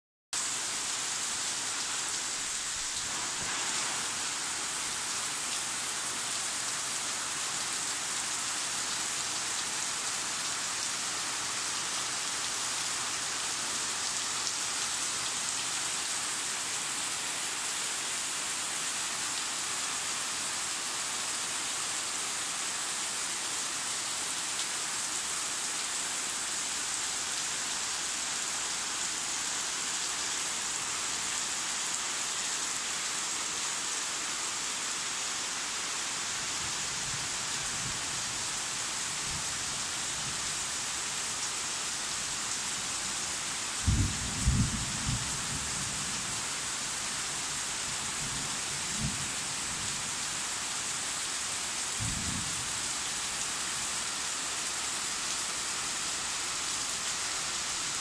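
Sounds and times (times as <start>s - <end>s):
rain falling on leaves: 0.4s - 58.0s.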